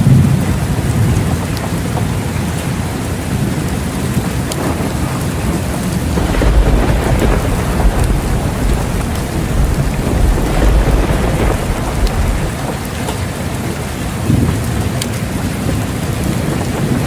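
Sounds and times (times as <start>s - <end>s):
heavy rain: 0.0s - 17.0s
raindrop ticks: 0.0s - 17.0s
rolling thunder: 3.3s - 17.0s.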